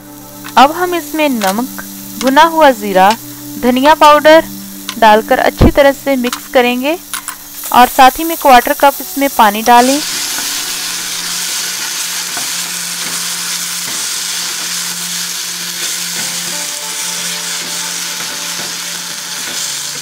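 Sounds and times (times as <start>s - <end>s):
masala sizzling in a pan: 0.0s - 20.0s.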